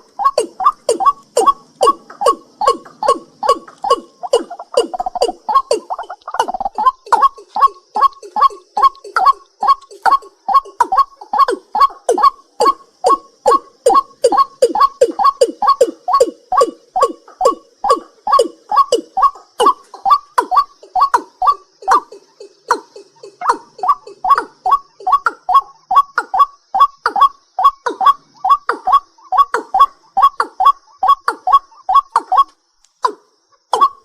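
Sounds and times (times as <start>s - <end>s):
high insect buzz: 0.0s - 34.0s
night bird knocking calls: 0.0s - 34.0s.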